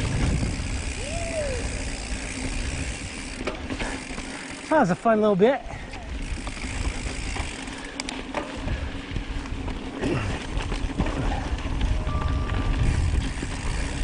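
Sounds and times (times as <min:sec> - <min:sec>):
wind rumbling on microphone: 0:00.0 - 0:03.4, 0:05.7 - 0:14.0
bike tyres on rocky dirt: 0:00.0 - 0:14.0.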